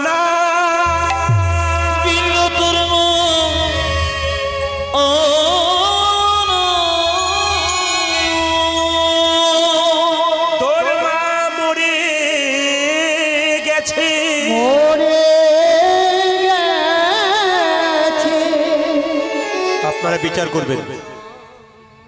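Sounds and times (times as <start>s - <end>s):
man singing devotional song: 0.0s - 22.0s.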